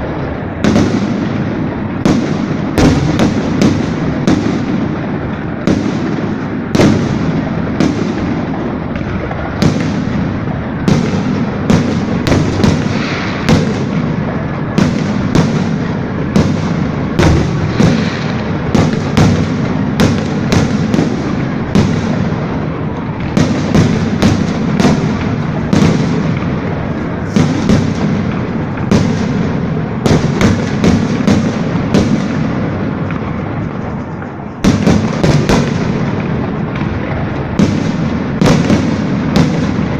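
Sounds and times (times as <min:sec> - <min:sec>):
firework shells bursting: 0:00.0 - 0:39.9.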